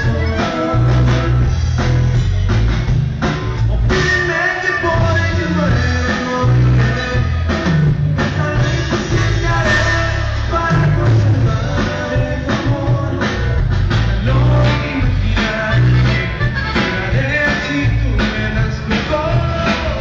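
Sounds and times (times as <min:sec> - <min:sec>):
bass line: 0:00.0 - 0:20.0
drum kit beat: 0:00.0 - 0:20.0
live band playing: 0:00.0 - 0:20.0.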